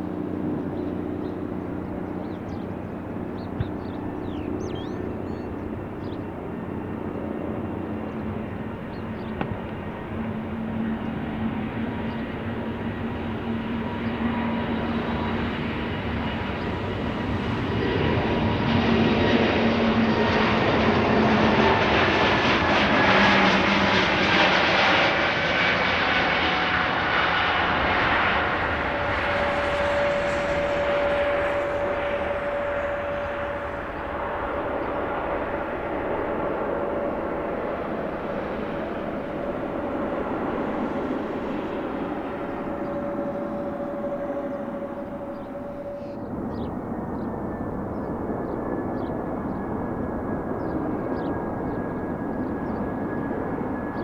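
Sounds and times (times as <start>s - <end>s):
airplane passing by: 0.0s - 54.0s.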